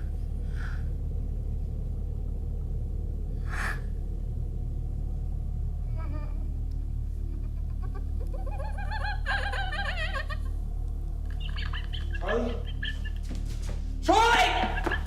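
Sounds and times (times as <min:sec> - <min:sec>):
low rumble: 0:00.0 - 0:14.1.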